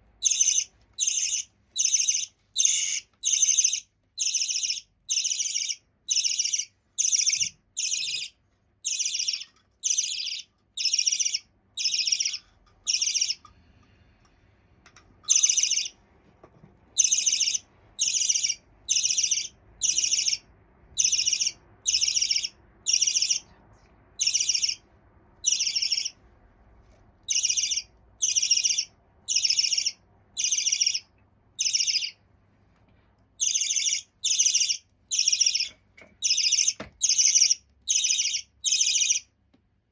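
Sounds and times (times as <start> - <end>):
budgie chick chirping: 0.2 - 13.4, 15.3 - 16.0, 17.0 - 23.5, 24.2 - 24.8, 25.4 - 26.2, 27.2 - 32.2, 33.4 - 39.3.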